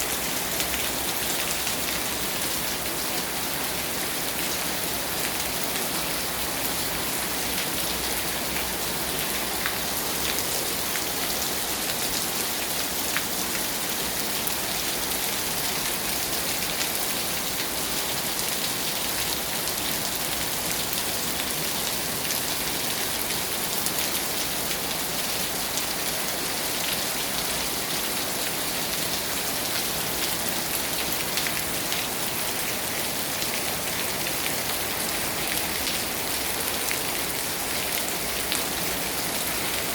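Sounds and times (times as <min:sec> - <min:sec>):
heavy rain on pavement and roof: 0:00.0 - 0:39.9.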